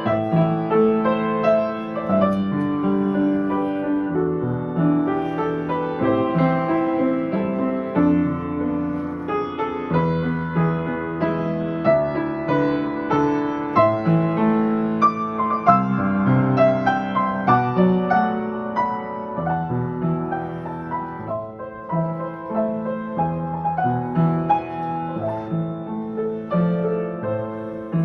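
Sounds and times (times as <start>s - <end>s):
slow gentle piano melody: 0.0s - 28.0s.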